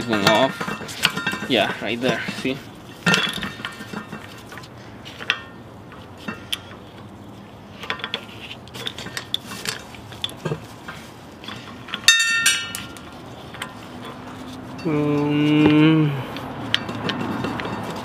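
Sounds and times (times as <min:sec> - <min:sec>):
metal pistons clinking and rattling: 0:00.0 - 0:15.2, 0:16.2 - 0:18.0.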